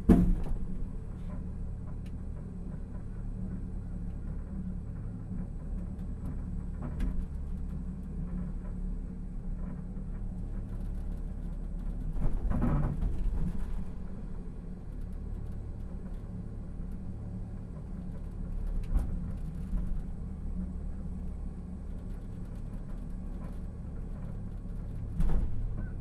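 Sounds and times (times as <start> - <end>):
rail capsule rumble and hum: 0.0 - 26.0.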